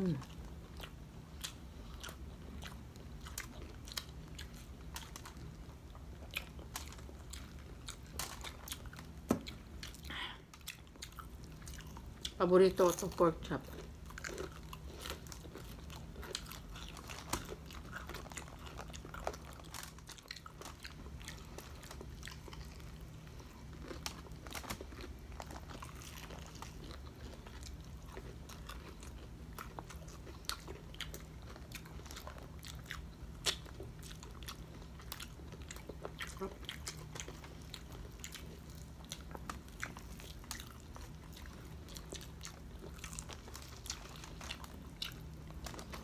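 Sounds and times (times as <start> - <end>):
crunching fried crust: 0.0 - 46.0
low steady hum: 0.0 - 46.0.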